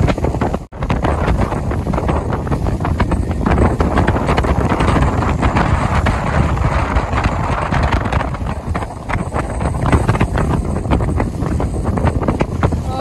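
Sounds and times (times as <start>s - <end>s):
boat hull slapping water: 0.0s - 13.0s
wind buffeting microphone: 0.0s - 13.0s.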